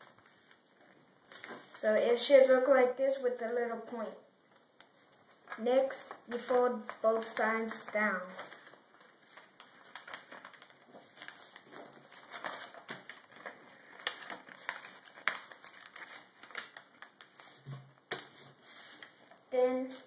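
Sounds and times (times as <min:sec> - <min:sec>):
paper rustling while folded: 0:00.0 - 0:01.9, 0:04.5 - 0:20.0.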